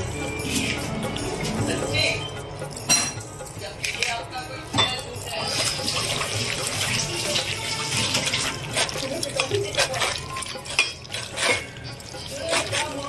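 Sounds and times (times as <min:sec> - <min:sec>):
hand mixing food in bowl: 0:00.0 - 0:02.8, 0:03.8 - 0:13.0.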